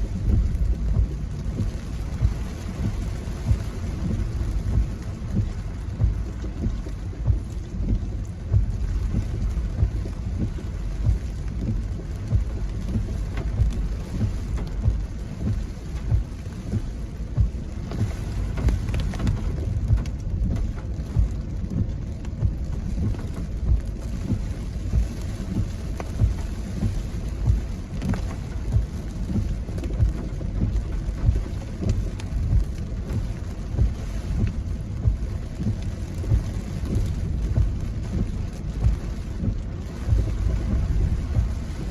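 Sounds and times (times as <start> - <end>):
faint rain hiss: 0.0 - 41.9
strong wind buffeting microphone: 0.0 - 41.9.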